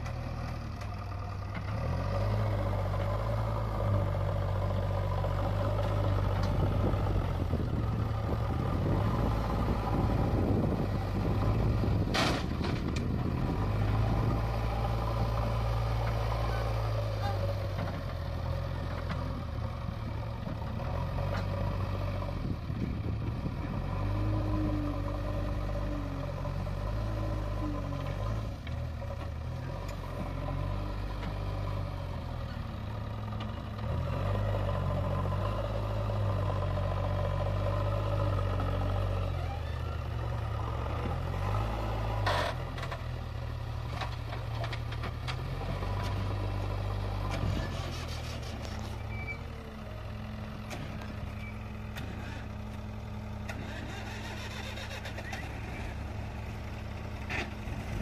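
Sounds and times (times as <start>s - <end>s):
backhoe diesel engine working: 0.0s - 58.0s.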